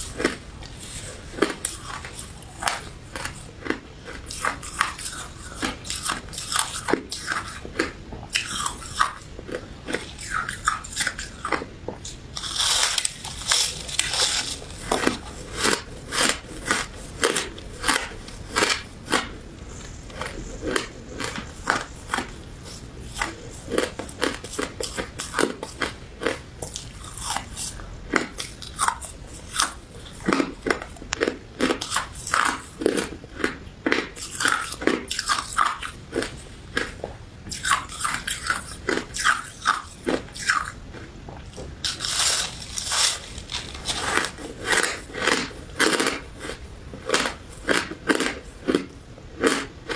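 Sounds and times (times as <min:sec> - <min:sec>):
crunchy dessert being chewed: 0:00.0 - 0:49.9.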